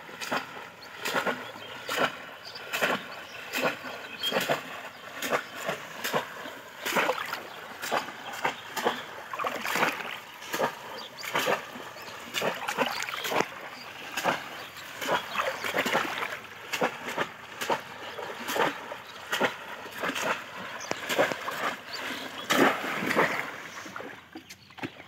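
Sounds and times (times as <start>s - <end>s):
pond water splashing: 0.0s - 25.0s.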